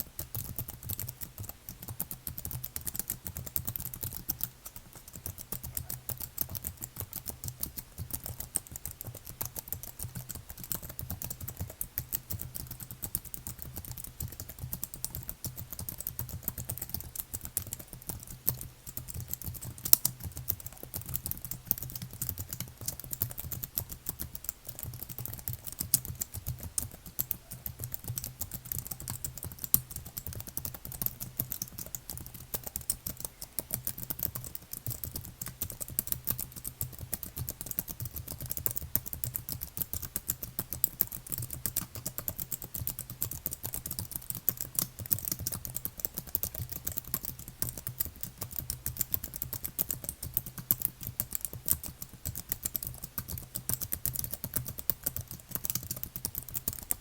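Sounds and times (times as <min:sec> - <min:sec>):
faint low hum: 0:00.0 - 0:57.0
fast typing on keyboard: 0:00.0 - 0:57.0.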